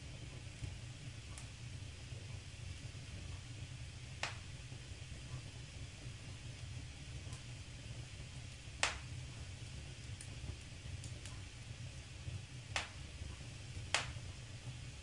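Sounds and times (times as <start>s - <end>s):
faint ticks of fire: 0.0s - 15.0s
wood fire crackling: 0.0s - 15.0s
sharp pops of fire: 0.1s - 15.0s.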